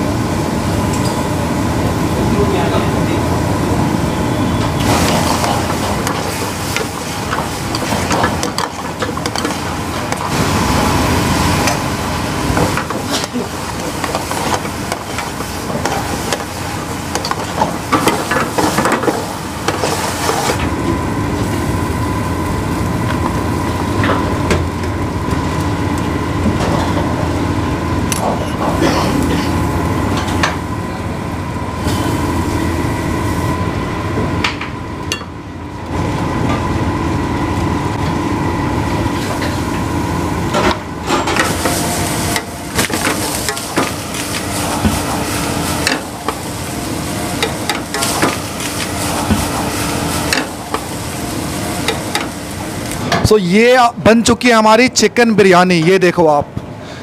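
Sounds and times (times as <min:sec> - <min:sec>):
gas burner rushing: 0:00.0 - 0:54.4.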